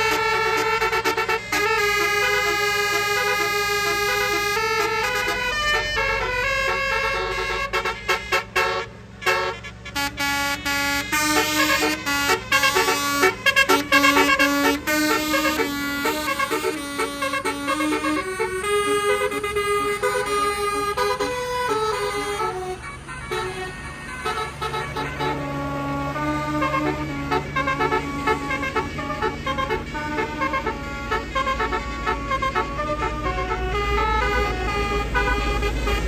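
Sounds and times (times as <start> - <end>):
multi-tone bus horn melody: 0.0 - 36.0.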